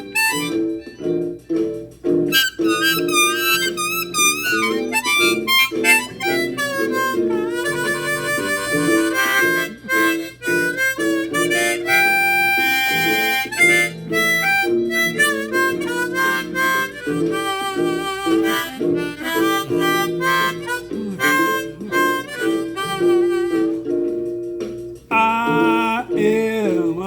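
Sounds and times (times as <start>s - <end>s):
bluesy harmonica: 0.0s - 27.0s
guitar accompaniment: 0.0s - 27.0s.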